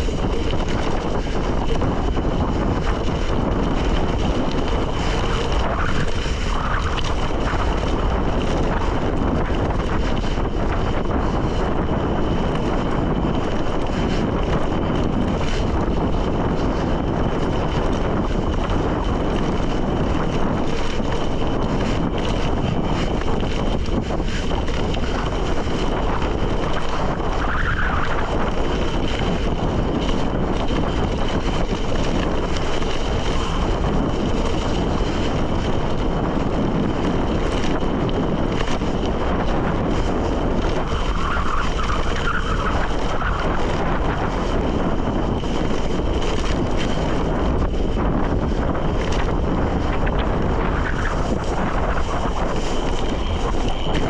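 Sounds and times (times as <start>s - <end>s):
bike tyres rumbling on dirt: 0.0s - 54.0s
wind on microphone: 0.0s - 54.0s.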